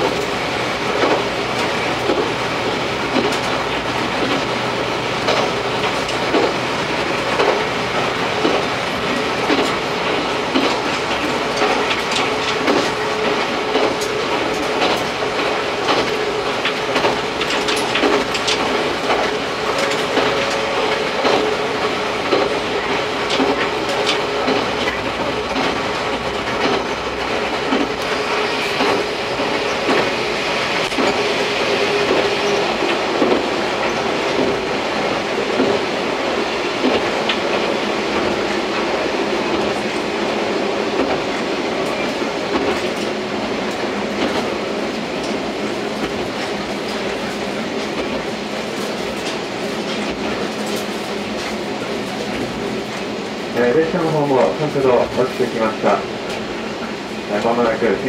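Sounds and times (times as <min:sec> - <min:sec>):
diesel railcar engine drone: 0:00.0 - 0:58.0
wheels clacking over rail joints: 0:00.0 - 0:58.0.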